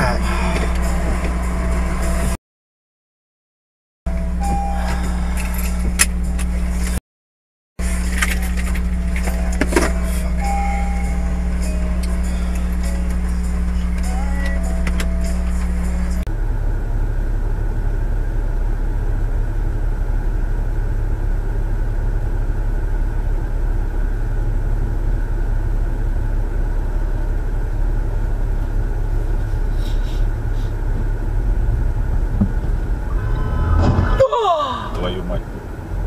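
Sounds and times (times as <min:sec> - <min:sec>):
car engine rumble: 0:00.0 - 0:02.4, 0:04.1 - 0:07.0, 0:07.8 - 0:36.0
road noise inside car: 0:00.0 - 0:02.4, 0:04.1 - 0:07.0, 0:07.8 - 0:36.0.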